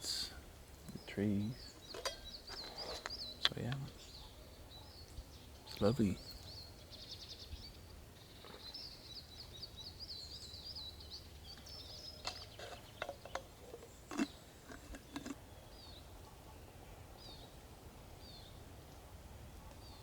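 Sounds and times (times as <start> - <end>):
faint chirps: 0.0 - 17.6.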